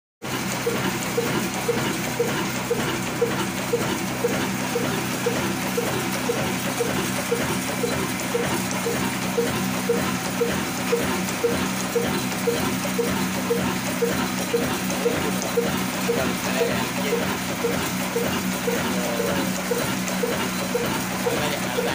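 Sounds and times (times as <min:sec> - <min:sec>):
diesel engine running steadily: 0:00.2 - 0:21.9.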